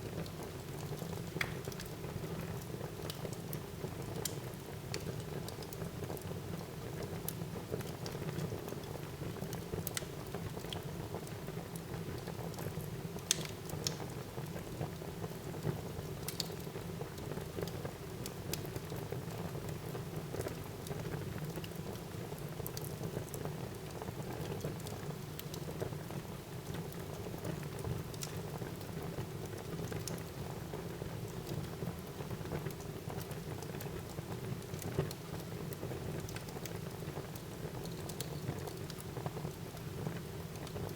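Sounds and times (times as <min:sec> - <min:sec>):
fire crackling and popping: 0:00.2 - 0:40.9.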